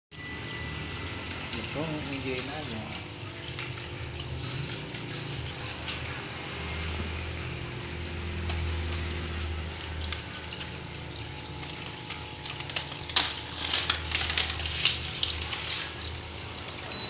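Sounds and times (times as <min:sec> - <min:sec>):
water bubbling and trickling: 0:00.2 - 0:17.0.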